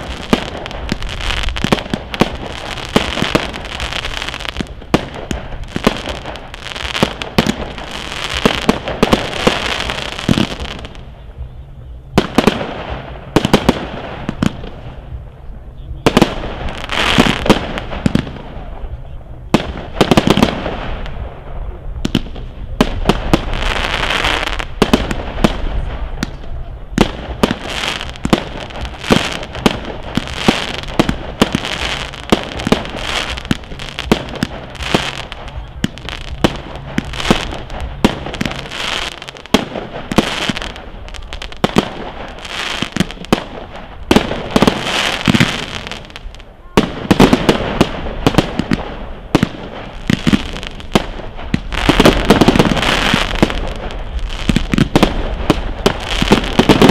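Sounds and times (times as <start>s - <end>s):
crackling firework stars: 0.0s - 56.9s.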